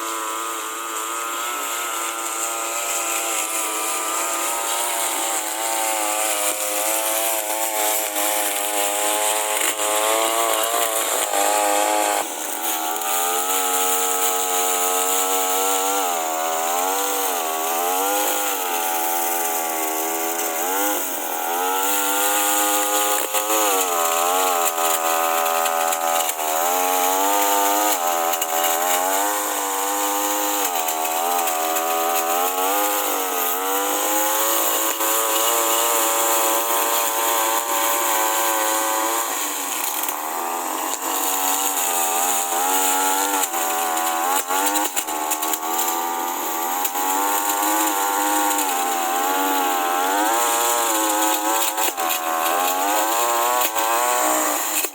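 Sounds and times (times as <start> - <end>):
lawn mower engine cutting grass: 0.0 - 54.9.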